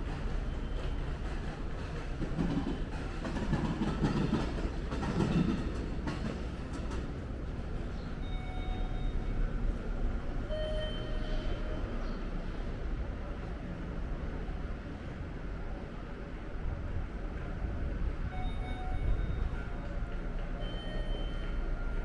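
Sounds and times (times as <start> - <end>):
train running past: 0.0 - 22.0.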